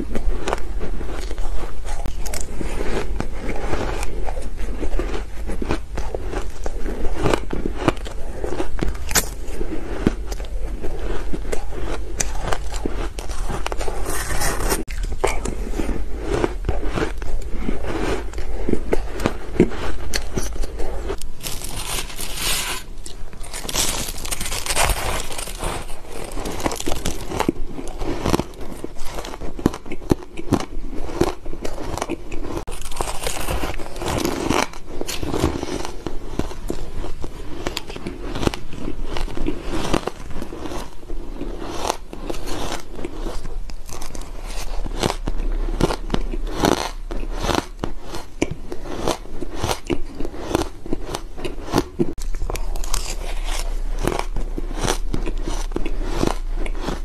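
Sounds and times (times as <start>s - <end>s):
ice crunching being chewed: 0.0s - 57.0s.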